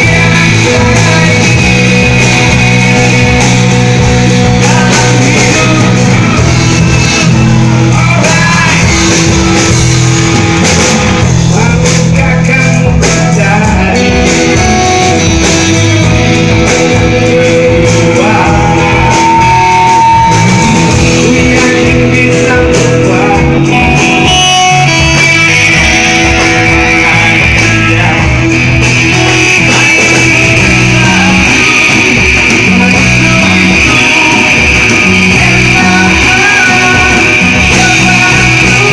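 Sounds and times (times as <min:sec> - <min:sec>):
bass: 0:00.0 - 0:38.9
electric guitar: 0:00.0 - 0:38.9
steady drum beat: 0:00.0 - 0:38.9.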